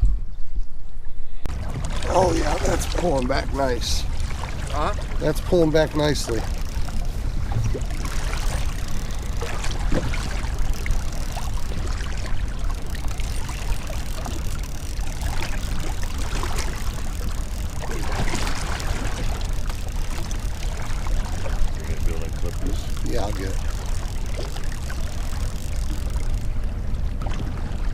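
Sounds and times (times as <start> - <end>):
water splashing along hull: 0.0 - 27.9
boat motor running: 1.5 - 27.9.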